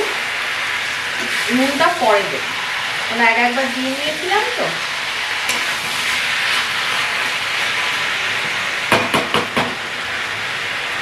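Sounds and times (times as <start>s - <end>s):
chicken sizzling in a wok: 0.0s - 11.0s.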